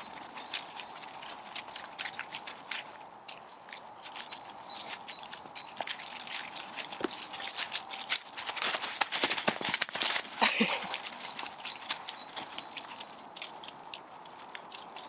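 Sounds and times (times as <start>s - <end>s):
footsteps rustling through leaves: 0.0s - 13.2s.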